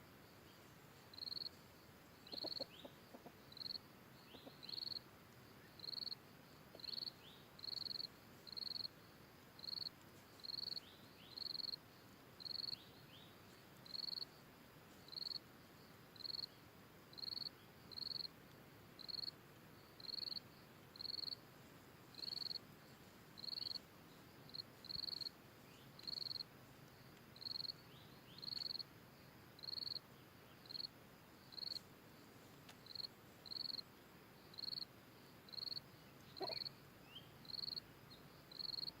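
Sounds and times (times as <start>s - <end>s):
forest background: 0.0s - 39.0s
insect chirping: 0.0s - 39.0s.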